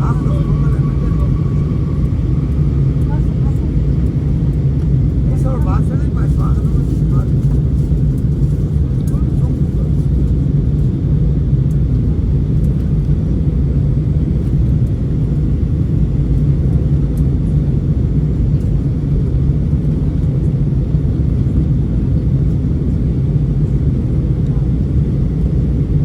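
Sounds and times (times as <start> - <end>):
airliner cabin drone: 0.0 - 26.0.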